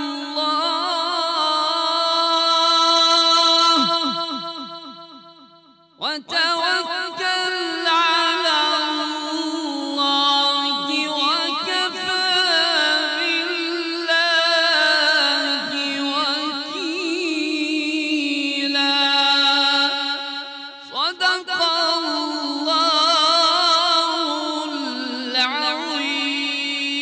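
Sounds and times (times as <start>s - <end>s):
man reciting melodically: 0.0s - 27.0s.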